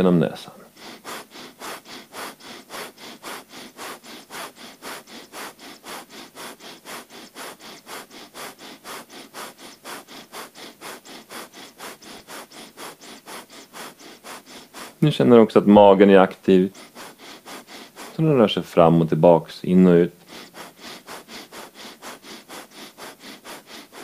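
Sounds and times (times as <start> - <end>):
rapid forceful nose breathing: 0.0 - 24.0.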